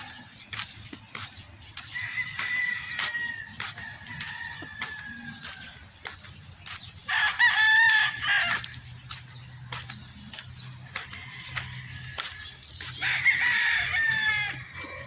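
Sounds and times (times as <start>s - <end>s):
roosters crowing: 0.0s - 0.7s, 1.8s - 6.1s, 7.0s - 15.0s.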